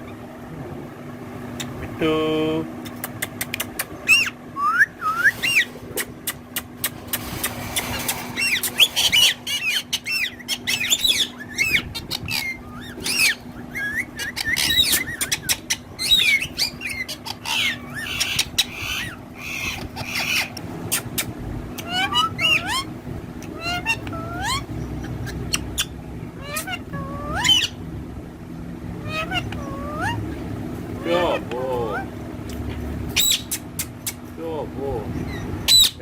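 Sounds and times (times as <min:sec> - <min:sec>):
steady low hum: 0:00.0 - 0:36.0
parrots chattering: 0:02.7 - 0:36.0.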